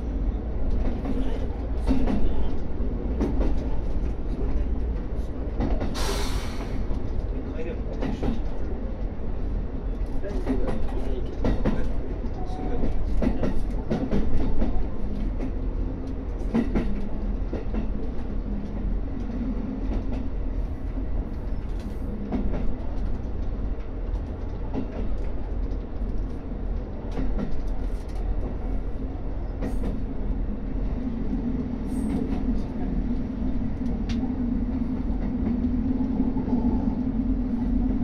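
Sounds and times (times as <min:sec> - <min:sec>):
railcar engine and running hum: 0:00.0 - 0:38.0.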